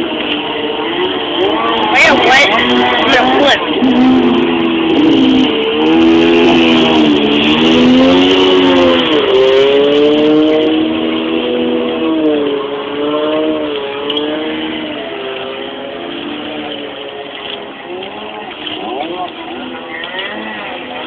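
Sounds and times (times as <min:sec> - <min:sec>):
jet ski engines revving: 0:00.0 - 0:21.0.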